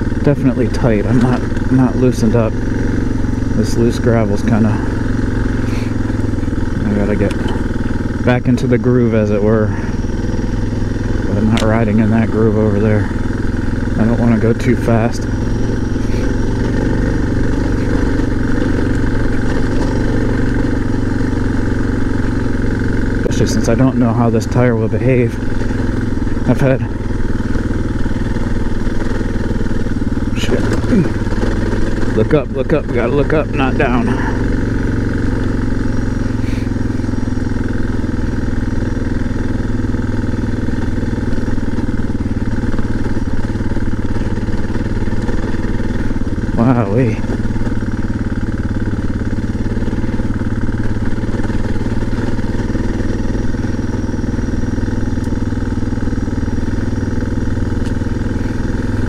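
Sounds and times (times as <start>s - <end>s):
motorcycle engine running: 0.0s - 59.0s
tires rolling on gravel: 0.0s - 59.0s.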